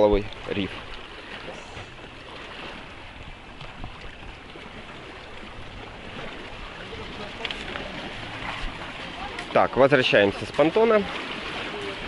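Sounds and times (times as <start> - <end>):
sea water sloshing and lapping: 0.0 - 12.0.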